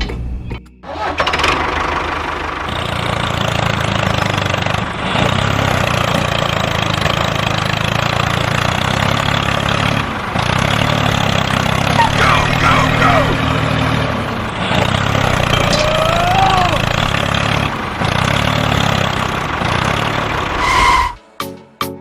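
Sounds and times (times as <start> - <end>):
engine starting and running: 0.0 - 21.2.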